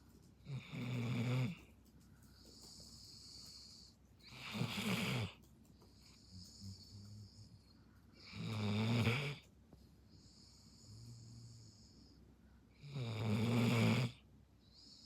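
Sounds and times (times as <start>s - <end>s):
dog breathing: 0.0s - 12.7s
dog snoring: 0.4s - 1.7s, 2.4s - 9.5s, 10.2s - 12.2s, 12.8s - 15.0s.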